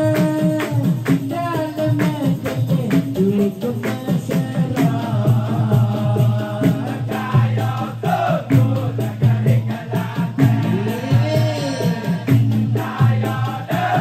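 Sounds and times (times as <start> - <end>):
driving percussion beat: 0.0 - 14.0
group singing and chanting: 0.0 - 14.0.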